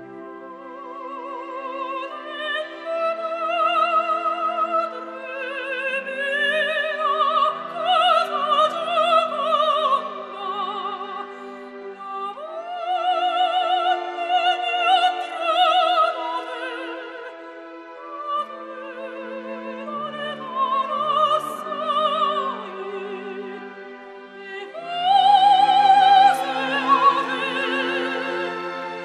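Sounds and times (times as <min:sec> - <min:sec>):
operatic singing: 0:00.0 - 0:29.0.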